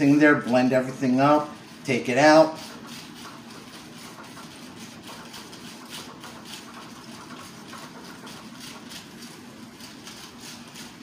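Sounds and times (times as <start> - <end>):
steady low hum: 0.0 - 11.0
whisk stirring in plastic container: 0.0 - 11.0.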